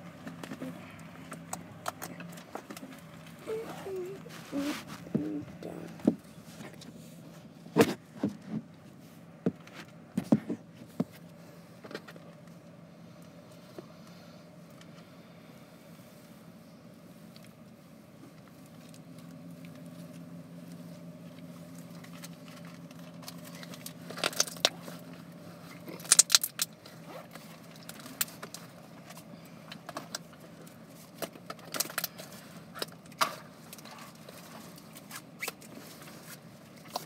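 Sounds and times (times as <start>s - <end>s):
low car engine hum: 0.0s - 37.0s.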